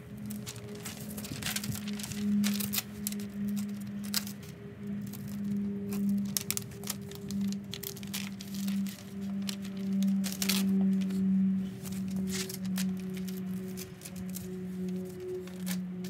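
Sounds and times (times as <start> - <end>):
background music: 0.0 - 16.0
masking paper crinkling and tearing: 0.0 - 16.0.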